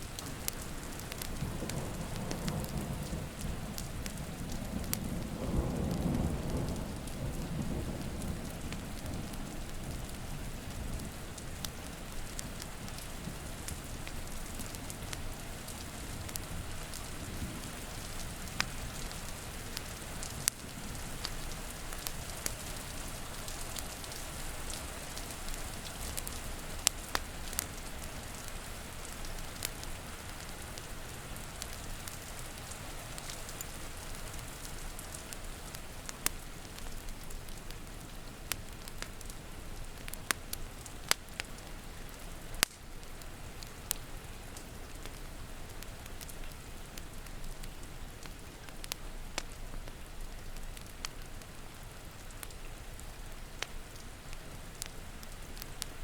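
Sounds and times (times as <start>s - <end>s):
steady rain falling: 0.0s - 56.0s
wood fire popping and crackling: 0.0s - 56.0s.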